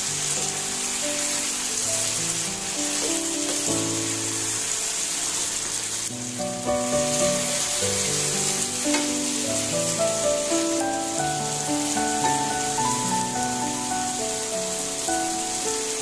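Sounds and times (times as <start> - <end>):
background music held notes: 0.0 - 16.0
chicken sizzling in a frying pan: 0.0 - 16.0.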